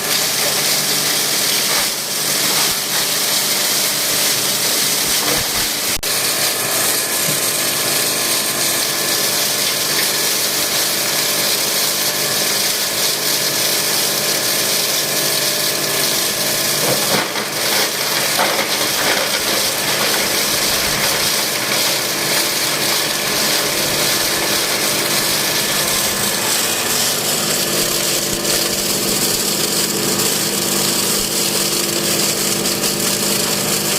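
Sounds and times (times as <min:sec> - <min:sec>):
plastic shredder whirring: 0:00.0 - 0:33.9.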